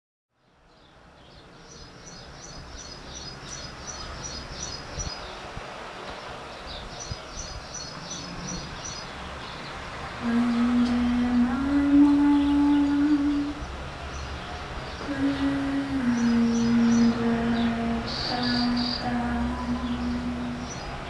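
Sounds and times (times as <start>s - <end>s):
outdoor field ambience: 0.3s - 21.0s.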